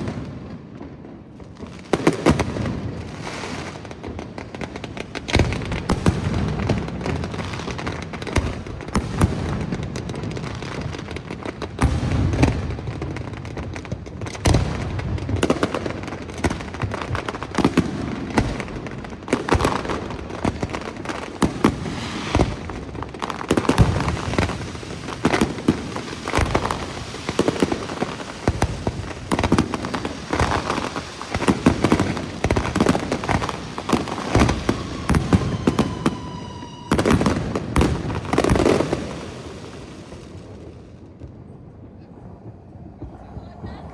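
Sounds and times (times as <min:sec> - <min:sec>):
deep fireworks booms: 0:00.0 - 0:43.9
fireworks bursts and crackling: 0:00.0 - 0:43.9.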